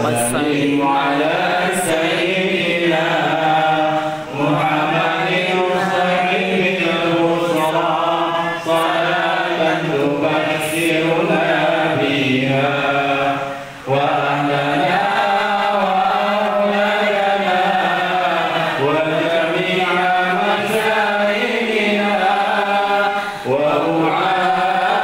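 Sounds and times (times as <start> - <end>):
congregation singing a devotional chant: 0.0 - 25.0.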